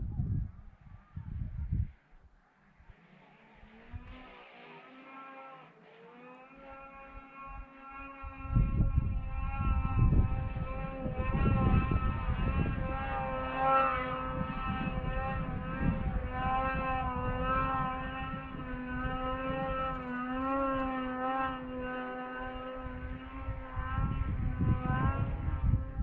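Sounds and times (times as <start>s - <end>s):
wind buffeting microphone: 0.0s - 2.2s, 6.6s - 26.0s.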